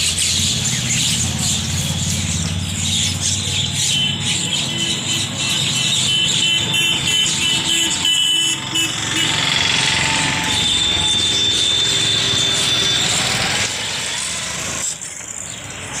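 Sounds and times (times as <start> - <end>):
street noise: 0.0 - 16.0
vehicle engine running: 0.0 - 16.0.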